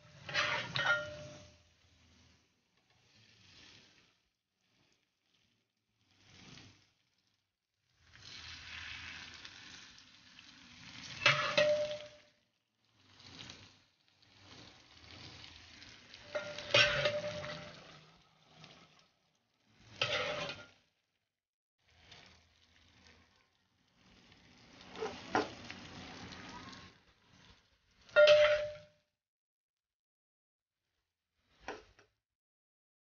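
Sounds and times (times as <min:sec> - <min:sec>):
food sizzling in a frying pan: 0:00.0 - 0:07.0, 0:07.8 - 0:21.0, 0:21.8 - 0:28.9.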